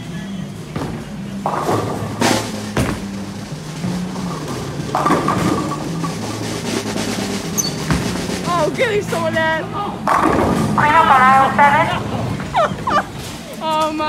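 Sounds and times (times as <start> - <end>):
background music with drums: 0.6 - 13.6
sharp crashes: 0.7 - 13.6.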